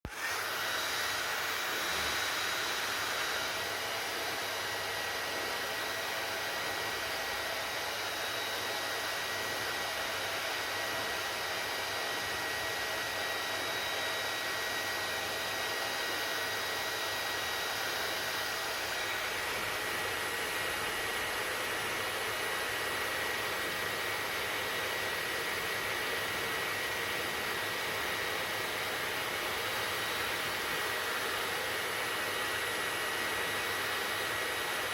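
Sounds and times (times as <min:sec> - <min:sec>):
hair dryer running: 0:00.0 - 0:34.9.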